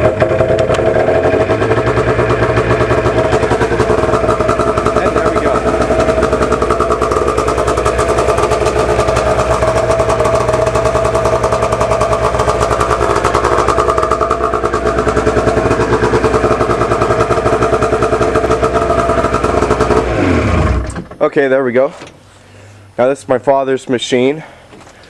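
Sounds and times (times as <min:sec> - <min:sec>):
snowmobile engine running: 0:00.0 - 0:20.9.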